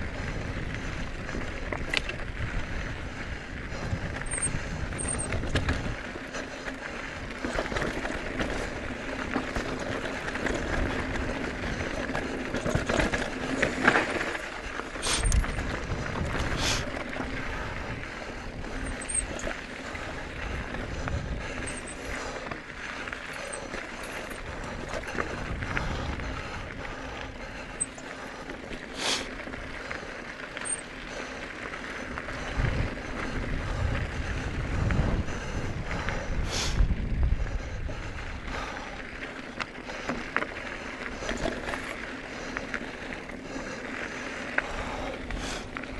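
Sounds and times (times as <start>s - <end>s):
bicycle tyre and drivetrain noise: 0.0s - 45.9s
bike clicks and knocks: 0.2s - 2.8s, 3.7s - 33.8s, 38.5s - 45.9s.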